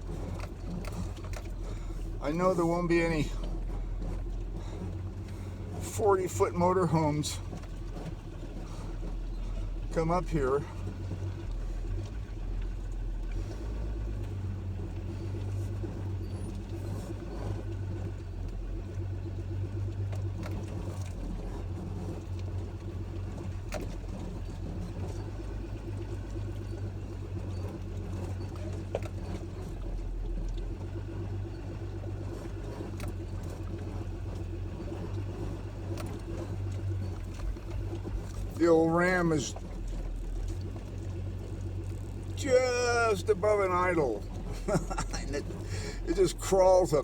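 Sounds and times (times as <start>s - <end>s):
truck engine idling: 0.0s - 47.0s.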